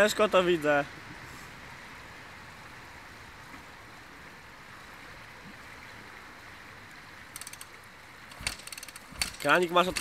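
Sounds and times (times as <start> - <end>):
river water flowing: 0.0 - 10.0.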